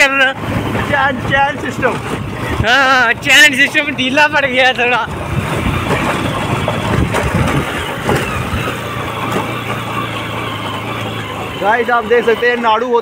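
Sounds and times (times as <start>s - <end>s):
drive chain clattering: 0.0s - 13.0s
motorcycle engine running: 0.0s - 13.0s.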